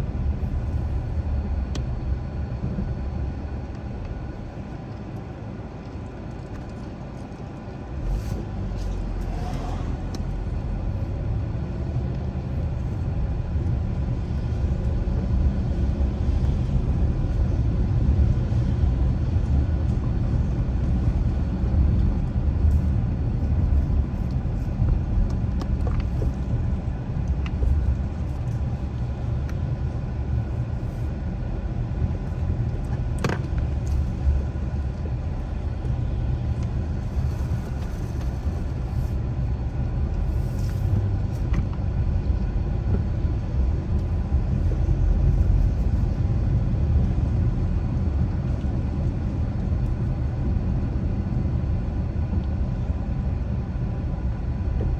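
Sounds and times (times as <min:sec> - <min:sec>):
car driving road noise: 0:00.0 - 0:54.9.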